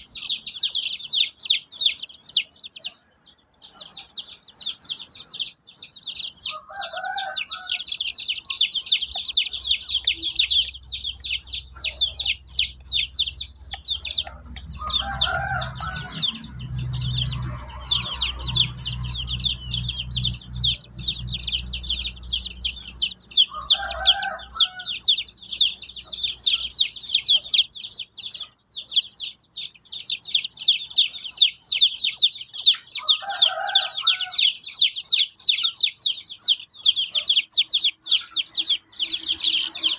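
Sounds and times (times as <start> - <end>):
chicken calling: 0.0 - 39.9
chicks peeping: 0.0 - 39.9.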